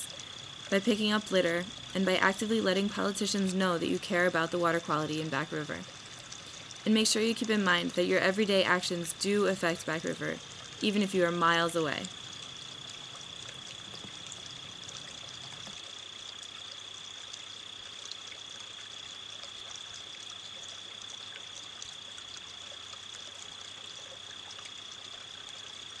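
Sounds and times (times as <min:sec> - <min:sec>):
faint high-pitched whine: 0:00.0 - 0:26.0
steady hiss: 0:00.0 - 0:26.0.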